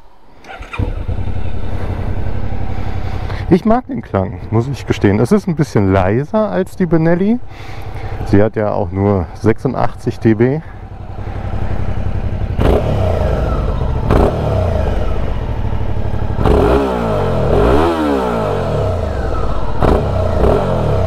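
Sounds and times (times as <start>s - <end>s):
motorcycle engine running: 0.5s - 4.5s, 7.1s - 21.0s.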